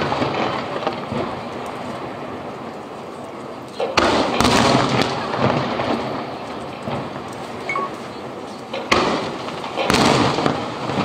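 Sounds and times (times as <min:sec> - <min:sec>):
firework shells booming: 0:00.0 - 0:11.0
small firework pops: 0:00.0 - 0:11.0.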